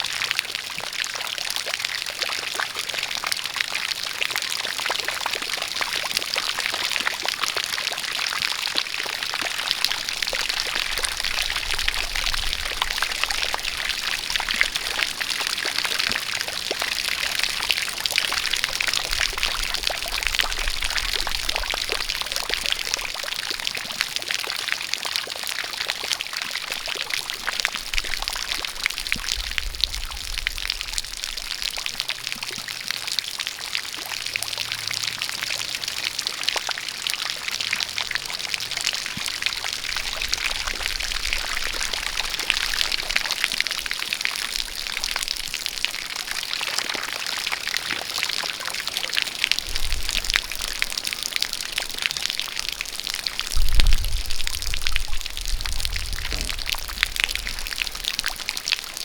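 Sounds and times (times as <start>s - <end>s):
rain falling: 0.0s - 59.0s
water jet pouring and splashing: 0.2s - 59.0s.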